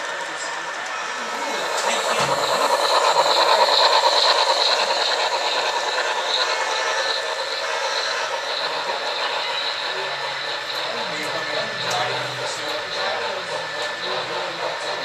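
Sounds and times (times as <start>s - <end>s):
model train wheels clattering: 0.0s - 15.0s.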